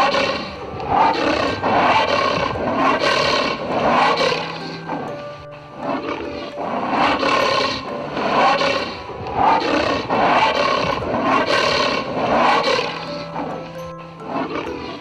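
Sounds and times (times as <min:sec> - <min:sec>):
faint music: 0:00.0 - 0:15.0.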